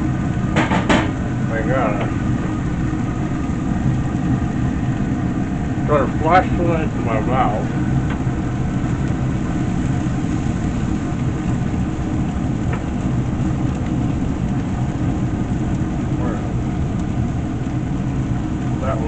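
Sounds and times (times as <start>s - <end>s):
grill fan humming: 0.0s - 19.0s
steaks sizzling: 0.0s - 19.0s.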